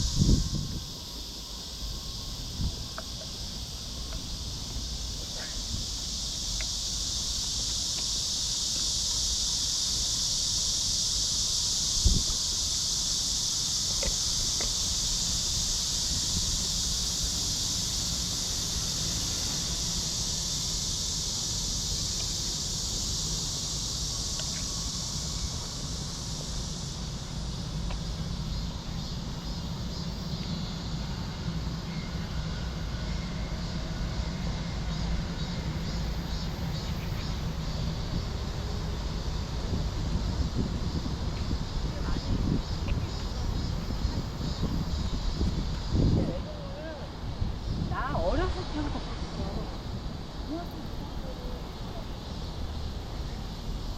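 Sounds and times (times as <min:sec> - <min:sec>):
insects shrilling: 0:00.0 - 0:53.9
low rumble of city traffic: 0:00.0 - 0:53.9.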